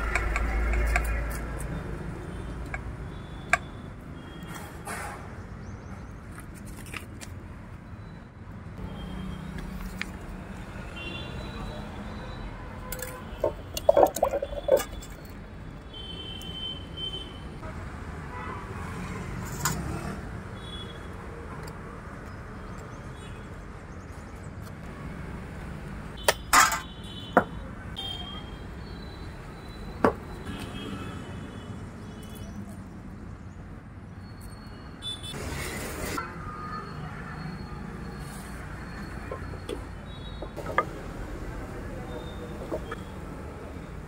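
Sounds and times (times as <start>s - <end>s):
street traffic: 0.0s - 44.0s.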